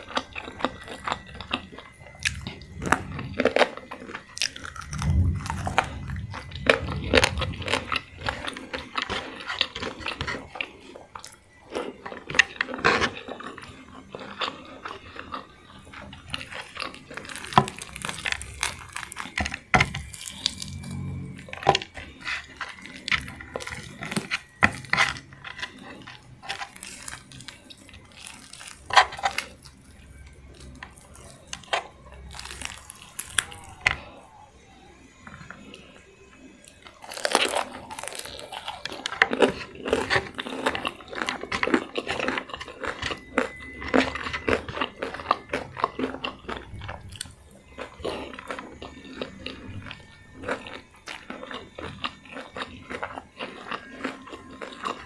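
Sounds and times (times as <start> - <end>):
person chewing crispy food: 0.0 - 55.0.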